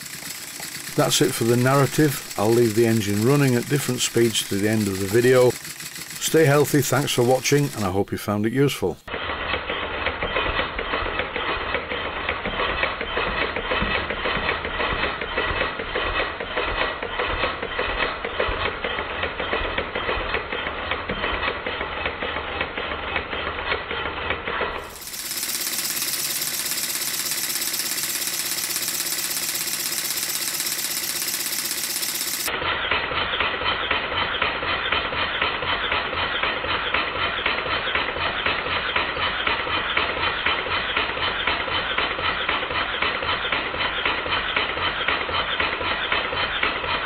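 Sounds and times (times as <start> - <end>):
model steam engine clattering: 0.0 - 47.0.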